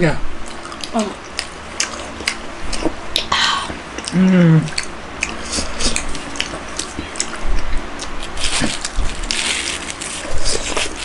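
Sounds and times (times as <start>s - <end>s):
wet chewing and mouth clicks: 0.4s - 3.3s, 3.9s - 11.0s.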